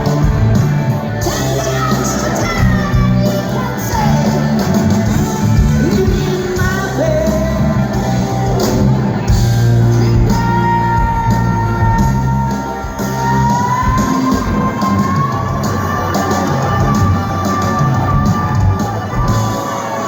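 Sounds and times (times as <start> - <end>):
hard rock band playing live: 0.0 - 20.0.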